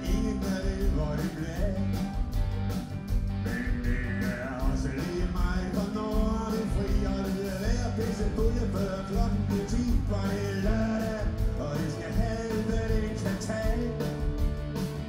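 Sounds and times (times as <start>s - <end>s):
person singing: 0.0s - 2.2s, 3.4s - 14.3s
rock band playing: 0.0s - 15.0s.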